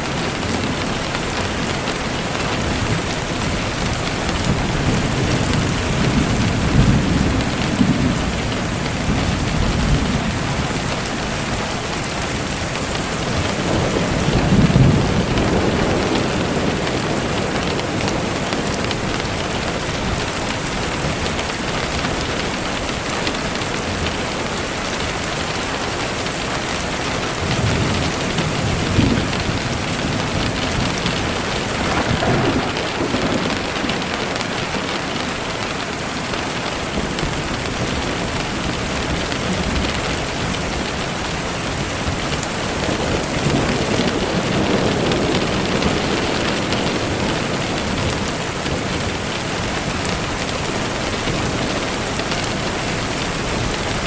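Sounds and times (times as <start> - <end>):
low thunder rumbles: 0.0 - 24.1, 26.2 - 54.0
rain falling: 0.0 - 54.0.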